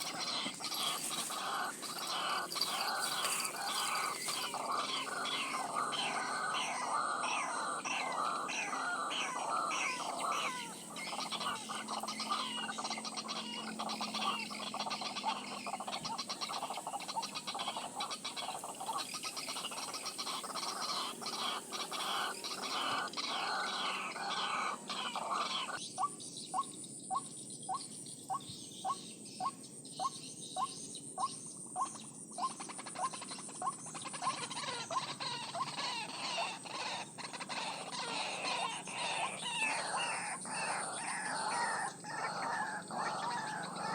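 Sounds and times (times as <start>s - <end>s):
waterhens croaking calls: 0.0s - 26.1s, 32.4s - 43.9s
sharp bird calls: 0.0s - 43.9s.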